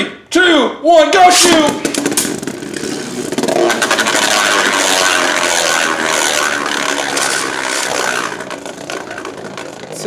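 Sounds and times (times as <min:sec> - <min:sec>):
spinning tops scraping plastic floor: 0:01.4 - 0:10.0
spinning tops clicking together: 0:01.7 - 0:10.0.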